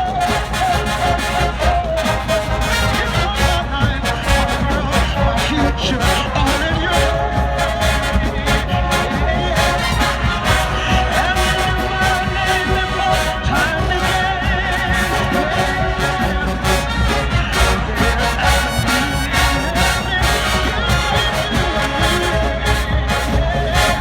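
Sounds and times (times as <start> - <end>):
brass: 0.0 - 24.0
heavy drum beat: 0.0 - 24.0
person singing: 0.0 - 24.0.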